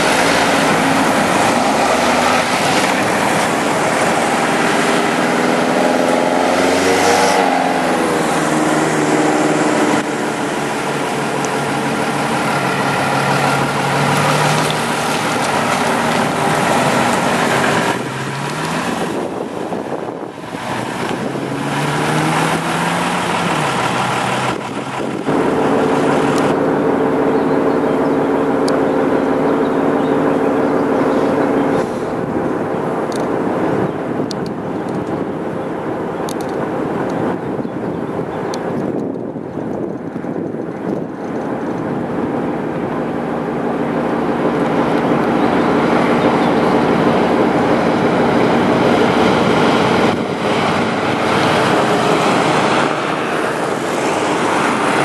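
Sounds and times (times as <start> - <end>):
trucks' diesel engines passing: 0.0 - 55.0.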